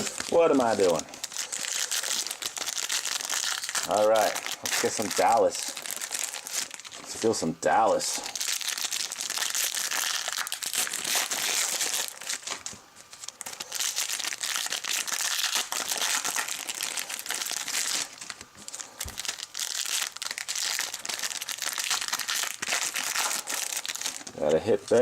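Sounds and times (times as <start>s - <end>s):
foil wrappers crinkling: 0.0s - 25.0s.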